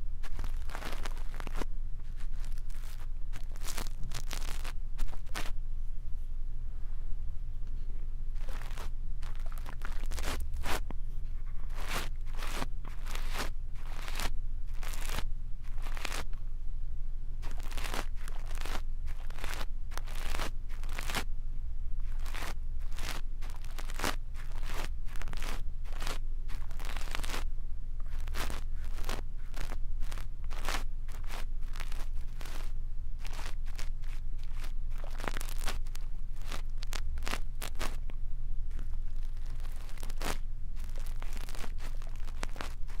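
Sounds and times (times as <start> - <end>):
brush scratching microphone: 0.0 - 5.6, 8.3 - 16.3, 17.4 - 21.3, 22.0 - 38.0, 38.7 - 43.0
low hum: 0.0 - 43.0.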